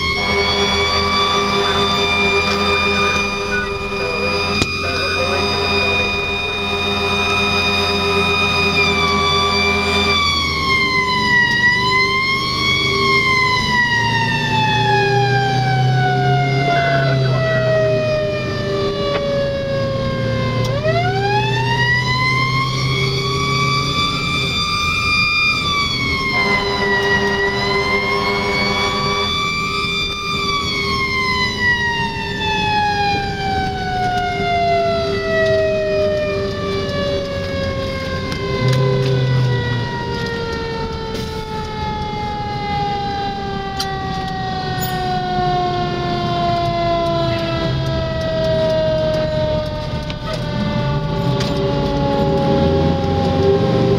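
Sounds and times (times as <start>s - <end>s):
fire truck siren wailing: 0.0s - 53.9s
truck engine running: 0.0s - 53.9s.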